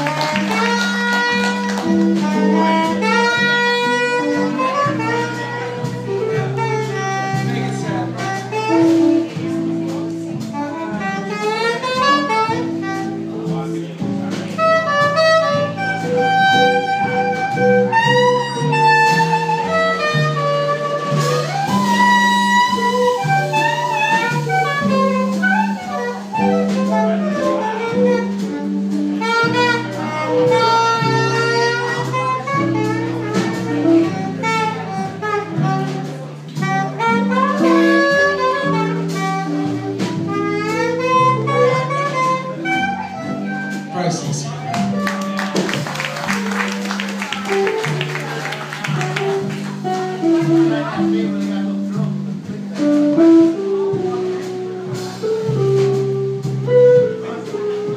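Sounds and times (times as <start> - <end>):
drums: 0.0 - 57.9
saxophone melody: 0.0 - 57.9
strummed guitar: 0.0 - 57.9
walking upright bass: 0.0 - 57.9.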